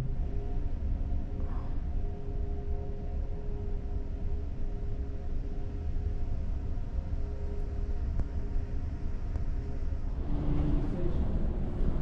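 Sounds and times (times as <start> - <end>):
ship machinery rumble and hum: 0.0 - 12.0.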